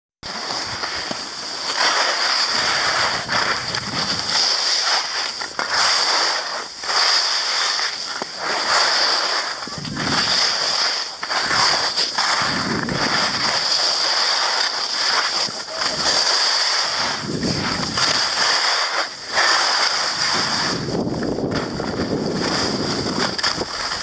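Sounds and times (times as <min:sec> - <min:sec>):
skis scraping over snow: 0:00.2 - 0:24.0.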